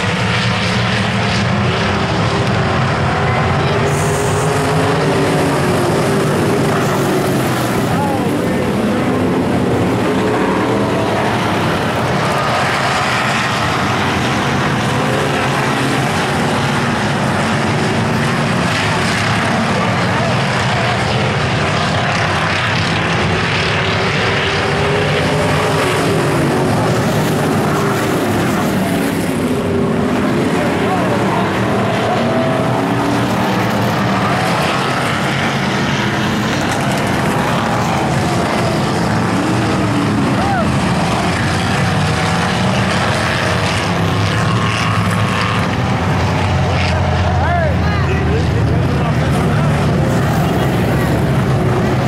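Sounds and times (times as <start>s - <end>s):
racing car engines droning: 0.0s - 52.0s.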